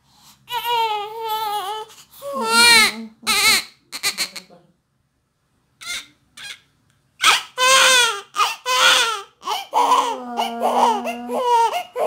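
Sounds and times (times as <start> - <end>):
newborn baby crying: 0.4 - 4.5, 5.8 - 12.0.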